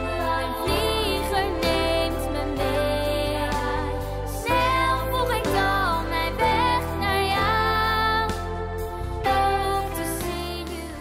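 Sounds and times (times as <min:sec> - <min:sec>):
girl singing pop song: 0:00.0 - 0:11.0
instrumental backing track: 0:00.0 - 0:11.0.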